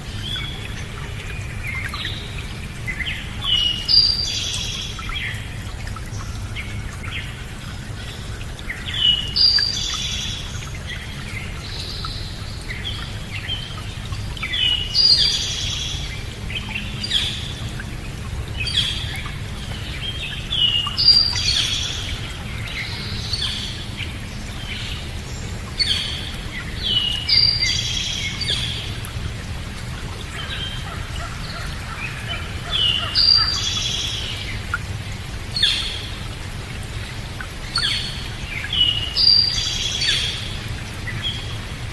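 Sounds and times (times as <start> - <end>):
birds singing: 0.0 - 29.2, 30.1 - 41.9.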